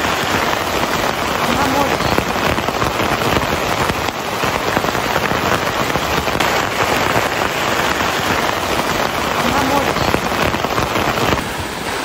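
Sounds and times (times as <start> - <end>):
heavy rain on tent roof: 0.0 - 12.0.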